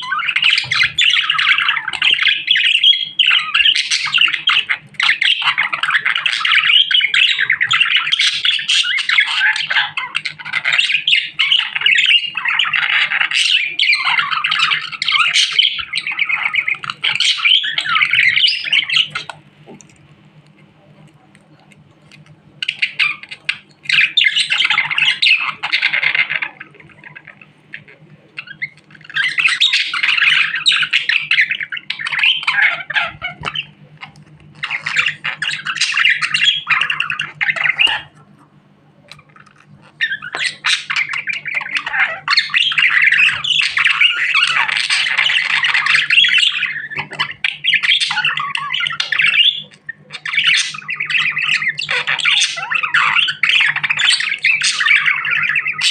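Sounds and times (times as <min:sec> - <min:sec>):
budgerigar chattering and warbling: 0:00.0 - 0:20.5, 0:21.6 - 0:55.9.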